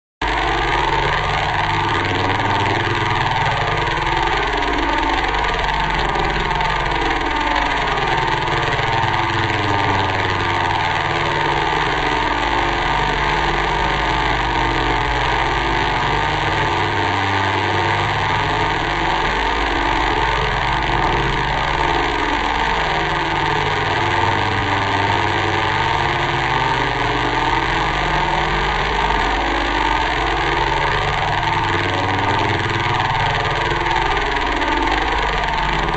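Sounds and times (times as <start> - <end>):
distorted warbling pitch sweeps: 0.2 - 35.9
steady drone: 0.2 - 35.9.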